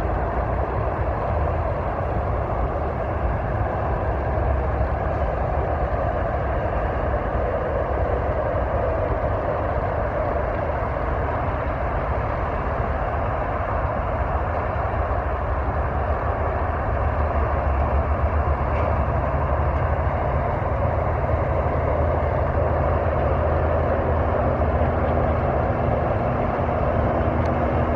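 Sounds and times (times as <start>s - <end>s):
heavy vehicle engine rumble: 0.0s - 27.9s
tyre and road noise: 0.0s - 27.9s.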